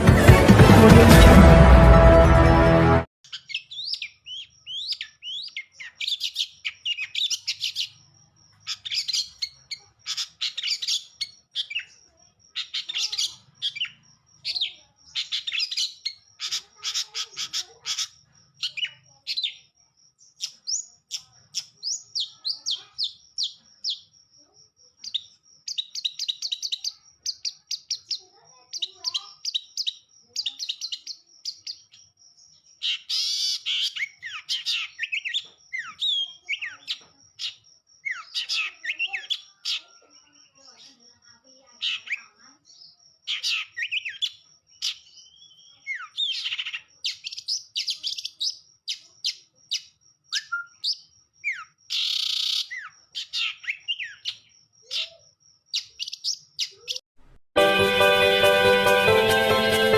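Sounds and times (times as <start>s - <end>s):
bird chattering and trilling: 3.3s - 24.2s, 25.0s - 57.0s.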